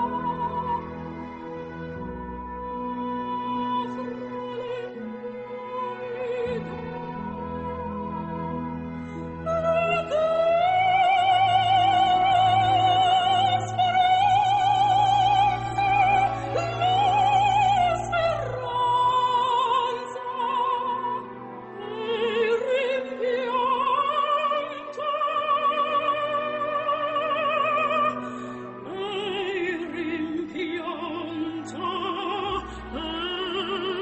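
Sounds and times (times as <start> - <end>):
classical accompaniment: 0.0 - 34.0
operatic singing: 0.0 - 34.0.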